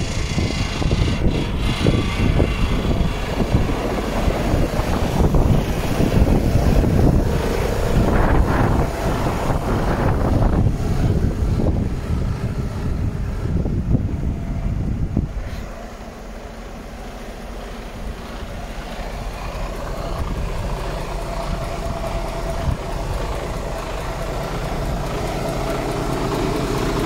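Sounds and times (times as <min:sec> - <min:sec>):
diesel truck engine running: 0:00.0 - 0:27.0
wind buffeting microphone: 0:00.0 - 0:27.0.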